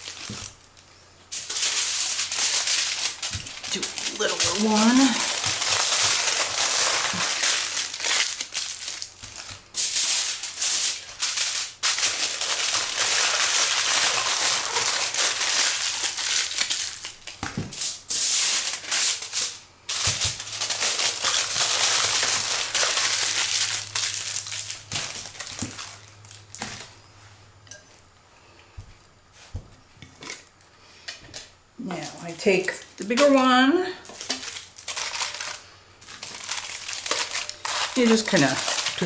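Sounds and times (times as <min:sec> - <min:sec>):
aluminium foil crinkling: 0:00.0 - 0:27.0, 0:31.8 - 0:39.0.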